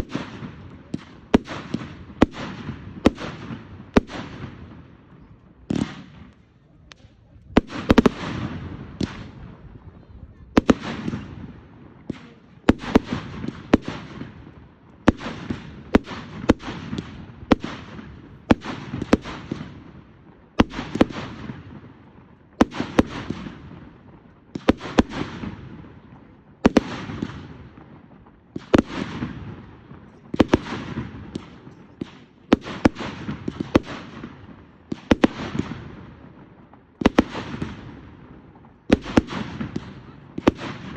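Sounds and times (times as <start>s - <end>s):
fireworks bangs and crackle: 0.0s - 40.9s.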